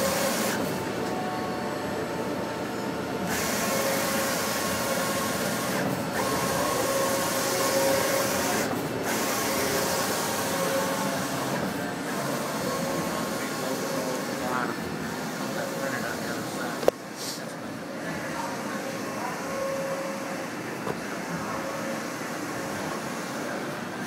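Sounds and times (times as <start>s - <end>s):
printer whirring and hissing: 0.0s - 24.0s
steady machine hums: 0.0s - 24.0s.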